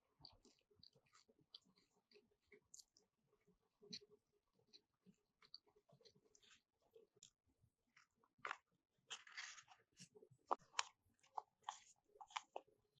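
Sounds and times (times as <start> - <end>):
crunchy food chewing: 0.1 - 3.1, 3.7 - 7.4, 8.0 - 13.0.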